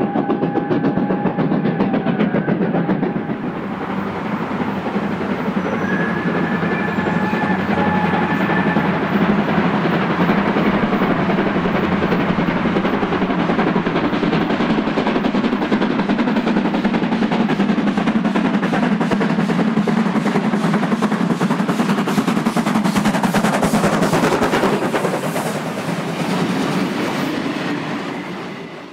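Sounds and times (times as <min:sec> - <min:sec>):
steam locomotive exhaust beats: 0:00.0 - 0:28.9.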